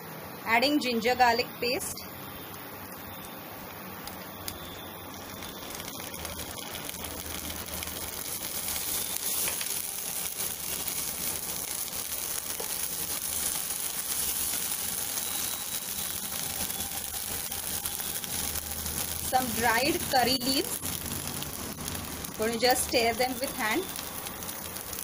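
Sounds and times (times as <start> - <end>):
paste sizzling in hot oil: 1.7 - 25.0.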